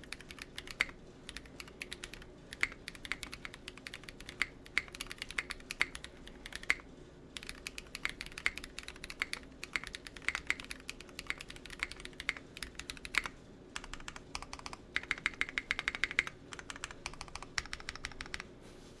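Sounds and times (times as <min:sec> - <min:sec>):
mechanical keyboard typing: 0:00.0 - 0:18.5.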